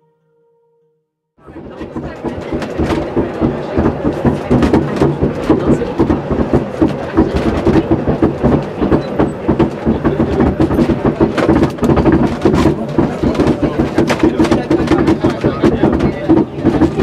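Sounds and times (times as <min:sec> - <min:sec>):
electric train hum: 0:01.4 - 0:17.0.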